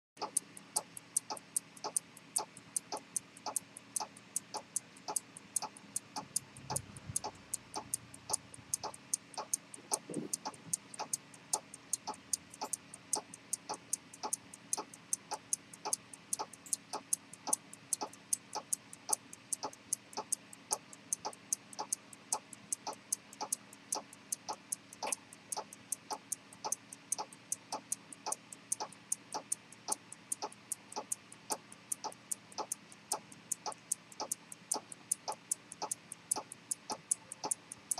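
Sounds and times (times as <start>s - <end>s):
pocket watch ticking: 0.2s - 37.9s.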